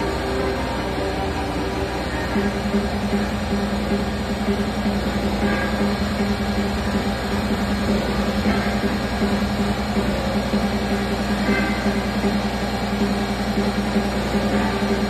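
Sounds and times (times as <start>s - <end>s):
carnival ride mechanical hum: 0.0s - 15.0s.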